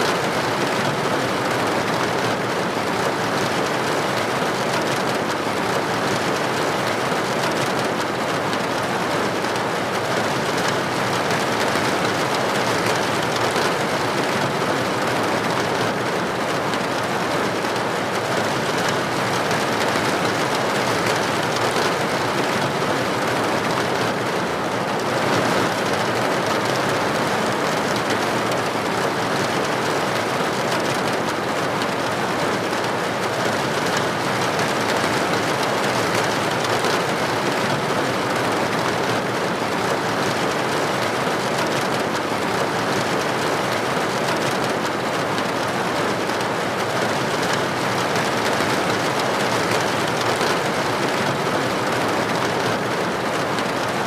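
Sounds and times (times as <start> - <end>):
steady rain patter: 0.0 - 54.0.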